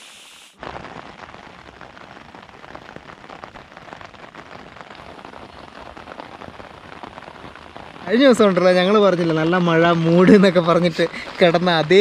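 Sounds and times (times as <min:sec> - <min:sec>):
heavy rain on tent fabric: 0:00.0 - 0:12.0.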